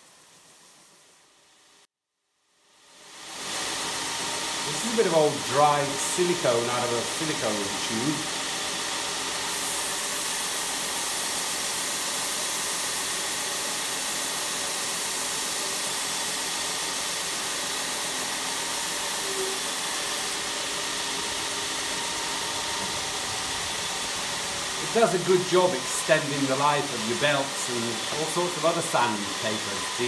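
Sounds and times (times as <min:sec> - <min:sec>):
belt sander running with hiss: 0:00.0 - 0:01.8, 0:02.8 - 0:30.0.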